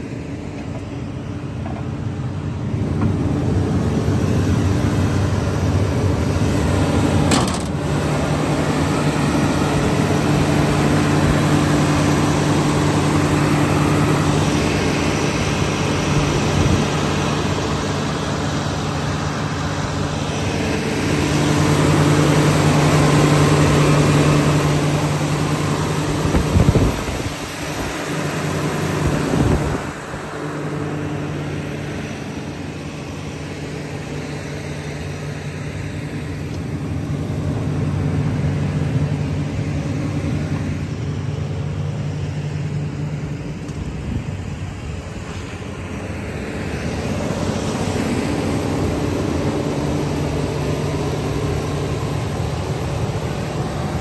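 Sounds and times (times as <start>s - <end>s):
excavator diesel engine hum: 0.0s - 54.0s.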